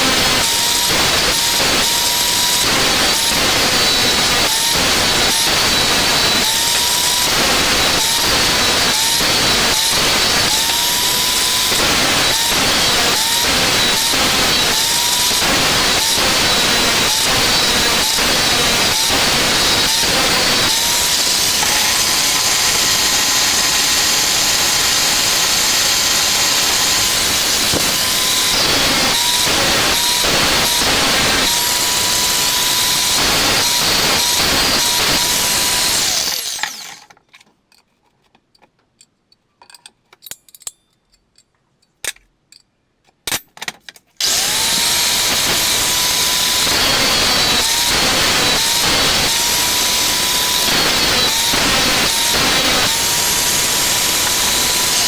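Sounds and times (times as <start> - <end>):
power tool whining and grinding: 0.0 - 37.2, 44.2 - 55.0.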